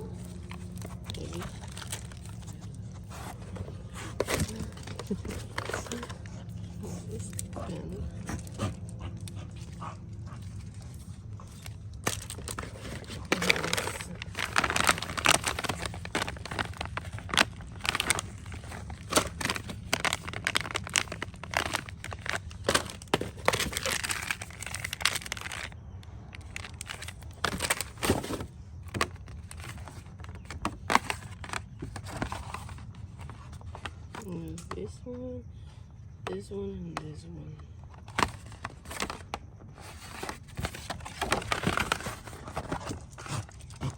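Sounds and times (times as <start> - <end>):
paper and plastic crinkling: 0.0 - 34.7, 37.8 - 43.9
steady low hum: 0.0 - 43.9.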